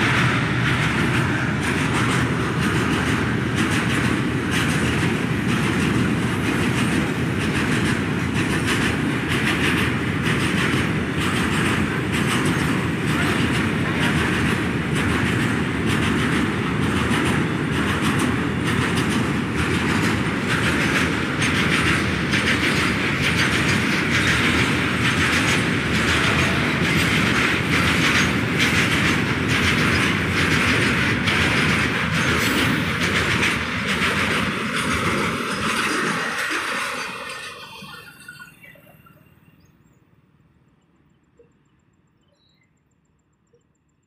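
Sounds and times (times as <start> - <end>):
clickety-clack over rail joints: 0.0 - 39.3
train wheels rumbling on rail: 0.0 - 39.6.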